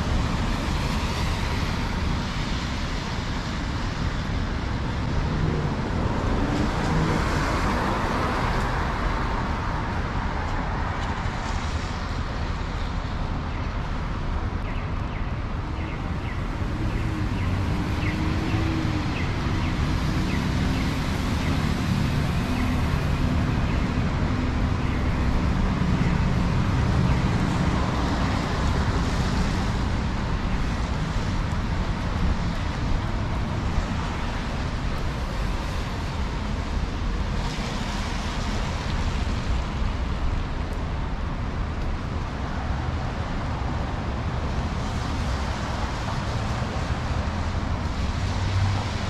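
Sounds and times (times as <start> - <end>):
cars passing with tyre hiss: 0.0 - 49.0
low traffic rumble: 0.0 - 49.0.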